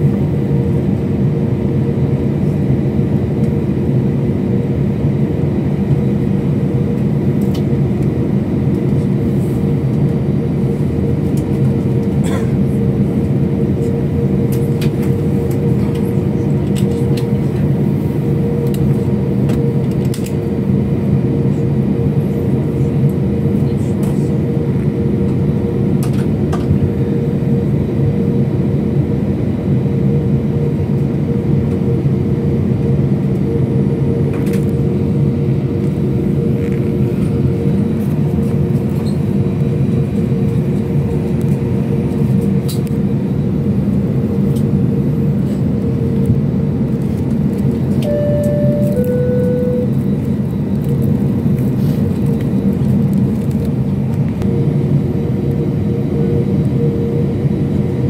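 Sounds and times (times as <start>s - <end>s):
airliner cabin engine hum: 0.0s - 58.0s.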